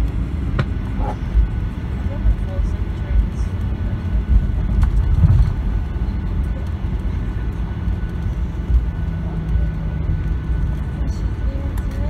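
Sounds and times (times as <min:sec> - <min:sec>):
aircraft engines idling rumble: 0:00.0 - 0:12.0
airframe rolling on taxiway: 0:00.0 - 0:12.0.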